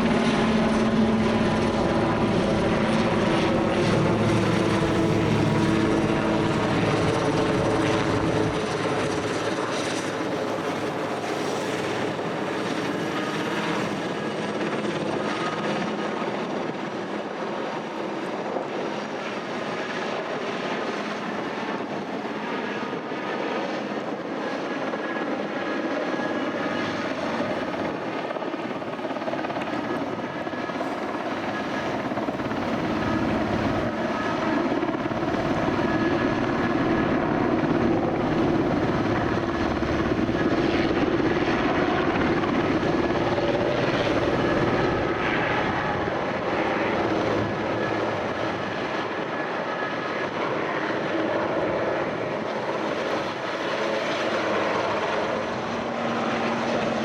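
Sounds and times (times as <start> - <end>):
faint turbine whine: 0.0 - 57.0
helicopter rotor drone: 0.0 - 57.0.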